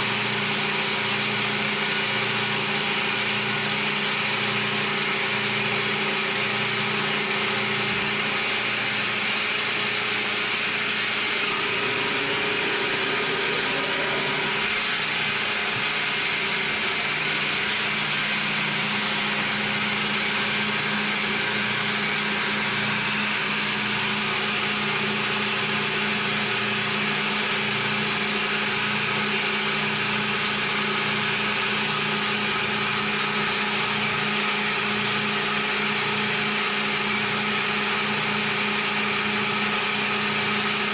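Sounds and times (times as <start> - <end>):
milling machine drone: 0.0 - 40.9.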